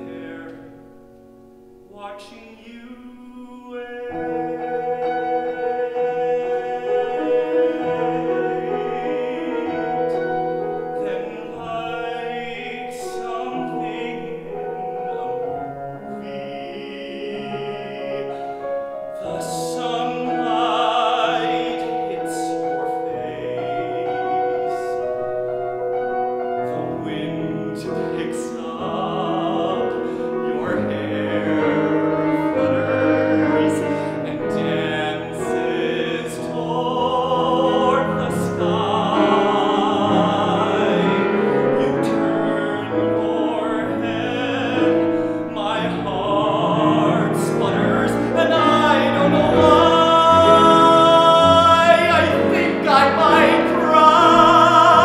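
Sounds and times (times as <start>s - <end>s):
man singing with vibrato: 0.0s - 55.0s
piano accompaniment: 0.0s - 55.0s.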